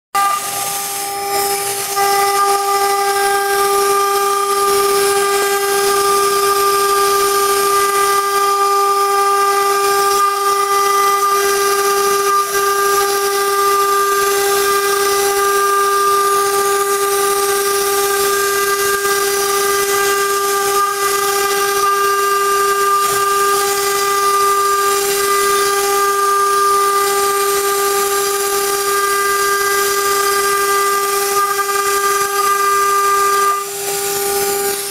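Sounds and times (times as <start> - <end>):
router spindle whine: 0.2 - 34.9.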